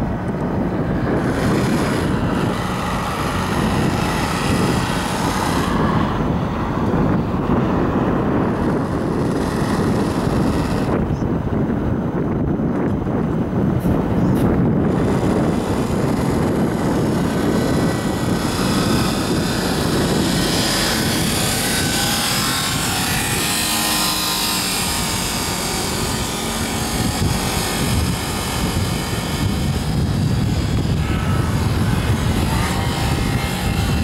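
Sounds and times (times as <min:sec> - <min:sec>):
faint mechanical whir: 0:00.0 - 0:34.0
wind buffeting microphone: 0:00.0 - 0:34.0.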